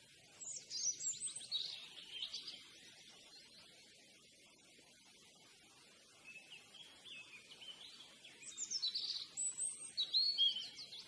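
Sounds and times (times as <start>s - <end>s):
faint outdoor hiss: 0.0s - 11.0s
songbird singing: 0.2s - 4.6s, 6.1s - 11.0s.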